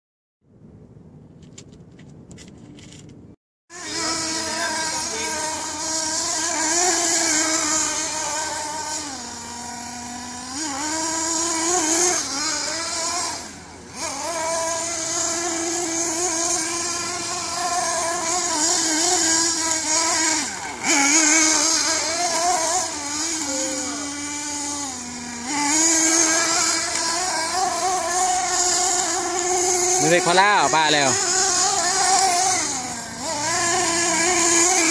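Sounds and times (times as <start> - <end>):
nitro engine buzzing: 1.4 - 34.9.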